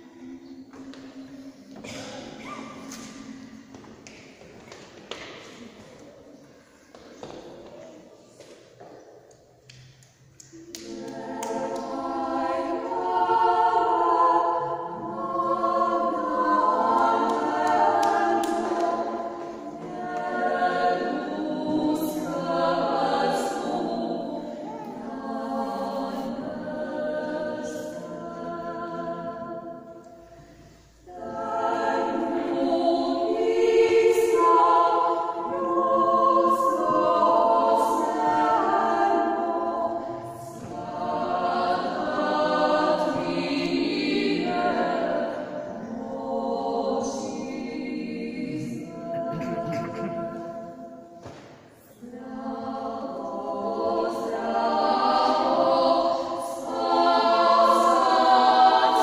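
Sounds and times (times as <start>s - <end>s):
women's choir singing a hymn: 0.0s - 9.8s, 10.4s - 59.0s.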